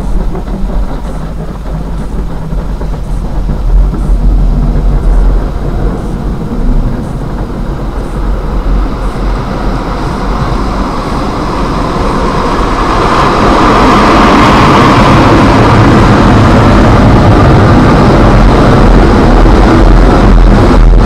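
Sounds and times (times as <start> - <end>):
car wash low rumble: 0.0 - 21.0.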